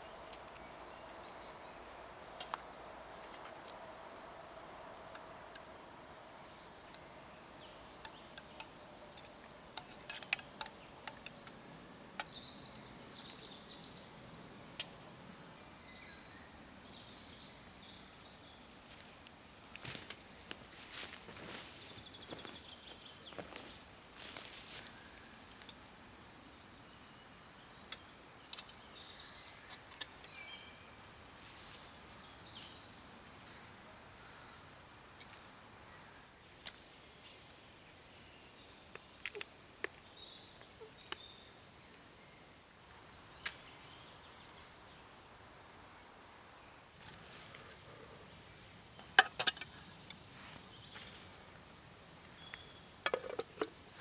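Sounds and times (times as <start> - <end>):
faint bird chirps: 0.0 - 54.0.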